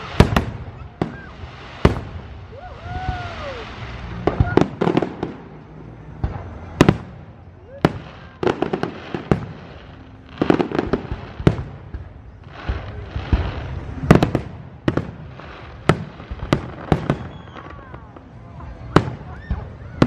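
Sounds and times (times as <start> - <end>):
fireworks bursting with bangs: 0.0 - 20.0
fireworks crackling: 0.0 - 20.0.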